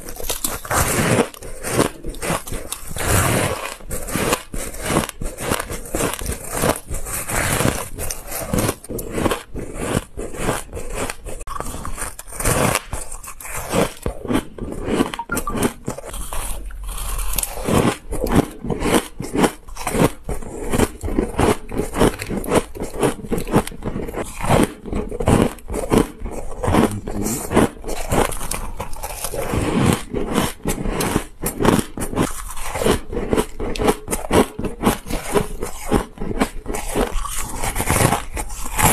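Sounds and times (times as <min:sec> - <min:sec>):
crunching shaved ice: 0:00.0 - 0:38.9.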